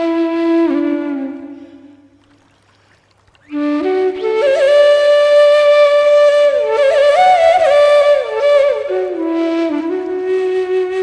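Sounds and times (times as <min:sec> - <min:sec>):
solo flute melody: 0:00.0 - 0:02.2, 0:03.4 - 0:11.0.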